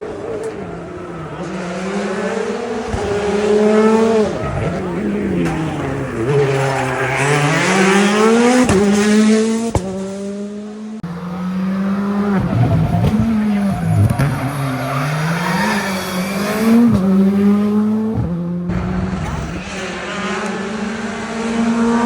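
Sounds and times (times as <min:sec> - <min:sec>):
rally car engines running hard: 0:00.0 - 0:22.0.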